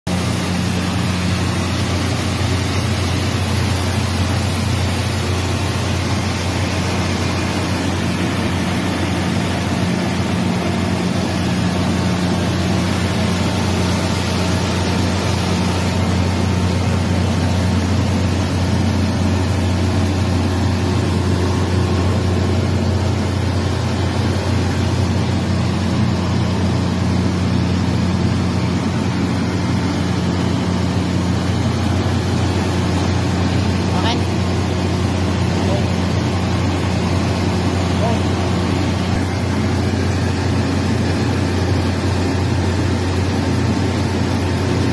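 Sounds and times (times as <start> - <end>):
grain streaming through machine: 0.1 - 44.9.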